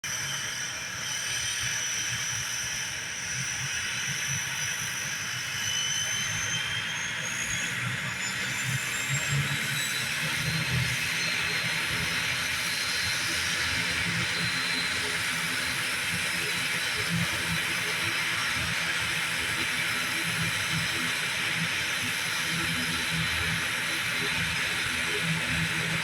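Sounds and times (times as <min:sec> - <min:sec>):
turboprop engines running: 0:00.1 - 0:26.0.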